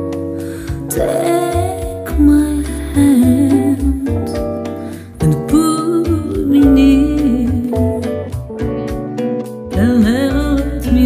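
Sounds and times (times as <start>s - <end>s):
acoustic guitar: 0.0s - 11.0s
woman singing: 0.4s - 8.4s, 9.7s - 11.0s.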